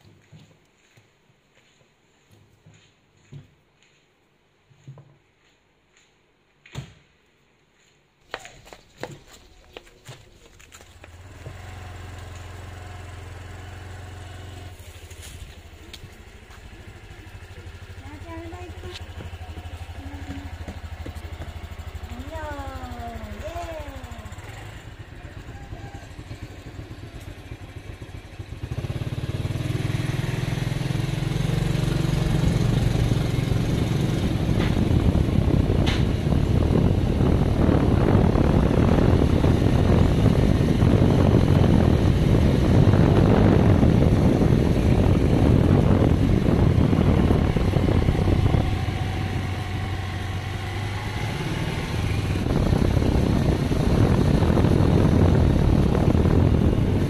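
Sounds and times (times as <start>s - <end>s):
motorbike engine: 8.3s - 57.0s.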